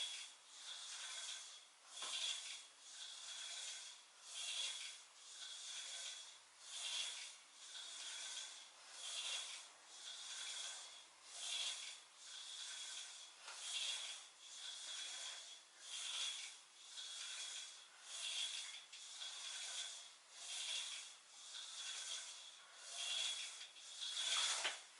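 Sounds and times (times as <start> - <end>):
rasping rubbing swish: 0.0 - 24.9.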